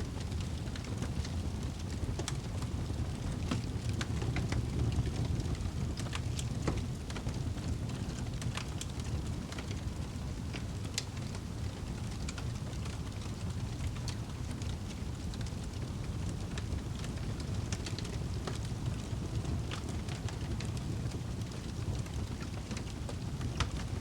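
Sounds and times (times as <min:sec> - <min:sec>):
fire crackling and popping: 0:00.0 - 0:24.0
wood fire burning: 0:00.0 - 0:24.0.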